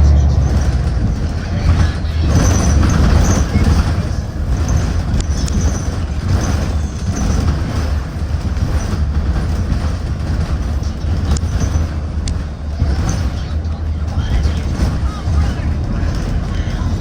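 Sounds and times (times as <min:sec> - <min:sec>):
bus engine and road rumble: 0:00.0 - 0:17.0
short rattles: 0:00.0 - 0:17.0.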